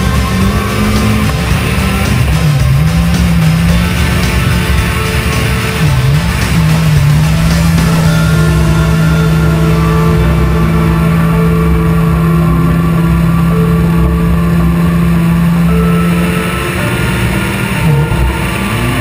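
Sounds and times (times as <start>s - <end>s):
background music with low note: 0.0s - 19.0s
rally car engine revving: 0.0s - 19.0s.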